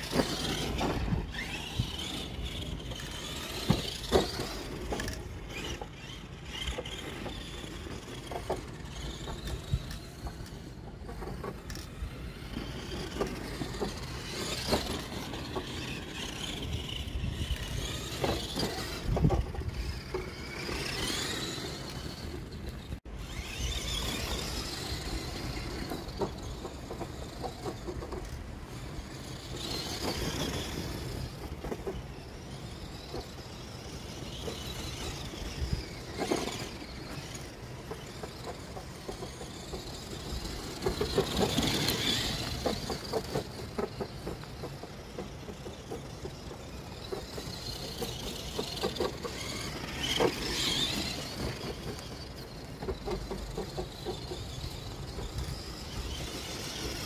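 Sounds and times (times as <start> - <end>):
rc truck motor whine: 0.0 - 57.0.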